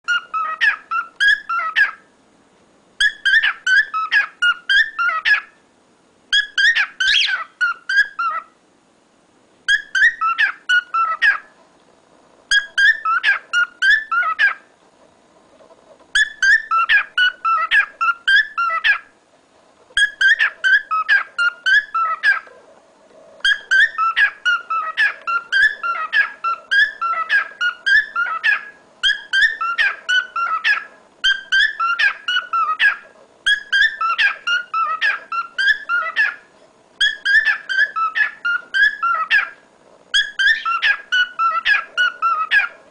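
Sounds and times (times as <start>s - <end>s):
cockatiel whistling: 0.1s - 2.0s, 3.0s - 5.5s, 6.3s - 8.5s, 9.7s - 11.5s, 12.5s - 14.6s, 16.2s - 19.1s, 20.0s - 22.5s, 23.4s - 42.8s.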